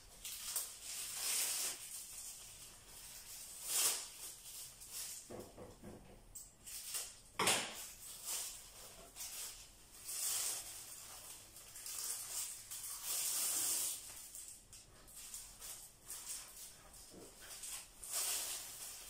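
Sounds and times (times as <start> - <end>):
plastic bag rustling: 0.0 - 5.4, 6.6 - 19.0.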